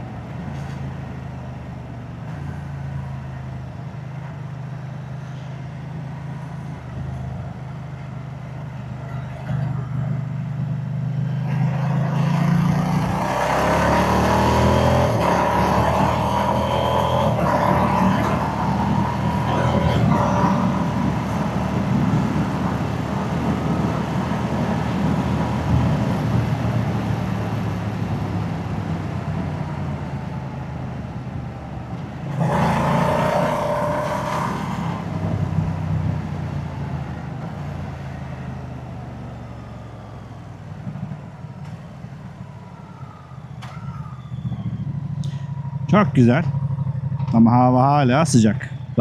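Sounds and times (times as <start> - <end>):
motorcycle engine and exhaust: 3.7 - 49.0.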